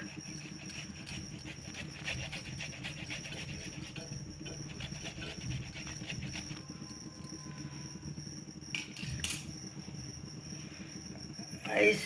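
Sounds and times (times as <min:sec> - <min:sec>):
water heating in a pot: 0:00.0 - 0:12.0.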